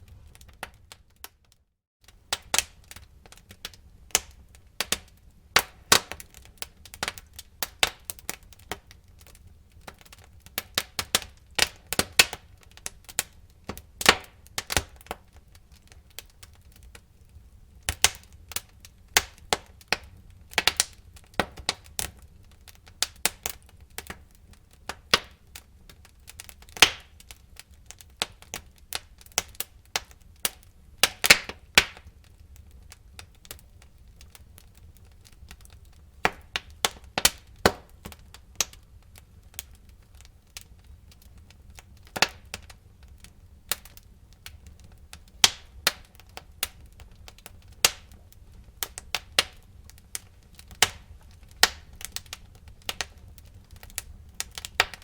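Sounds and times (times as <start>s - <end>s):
firewood crackling and popping: 0.0s - 55.0s
low rumble of fire: 0.0s - 55.0s.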